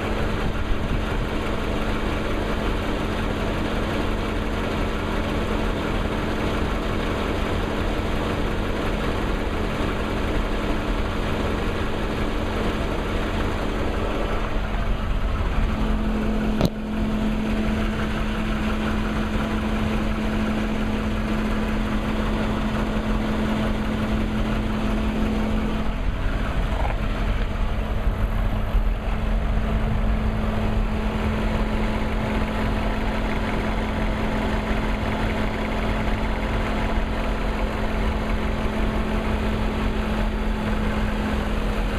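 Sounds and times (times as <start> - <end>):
car engine idling with ticking: 0.0 - 41.9.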